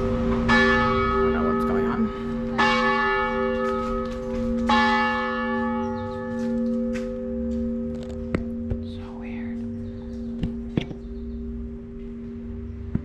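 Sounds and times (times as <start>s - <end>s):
large bell tolling: 0.0s - 13.0s.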